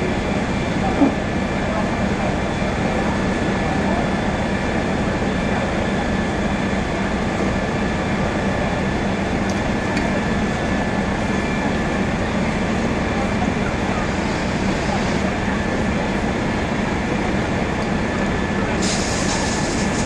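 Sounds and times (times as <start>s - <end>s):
fire engine pumps droning: 0.0s - 20.0s.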